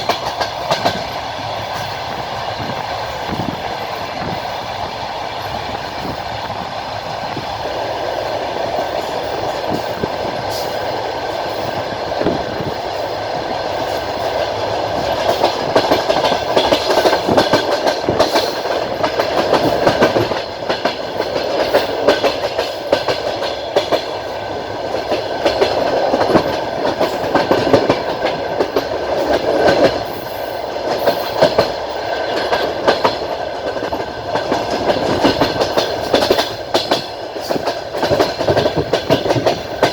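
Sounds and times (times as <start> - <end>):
train wheels clacking: 0.0 - 39.9.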